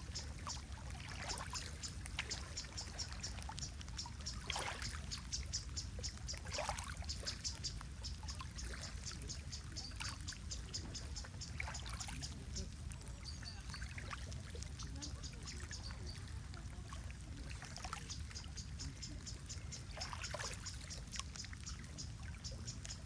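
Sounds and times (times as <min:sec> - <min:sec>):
small splashes: 0:00.0 - 0:23.0
water lapping and trickling: 0:00.0 - 0:23.0.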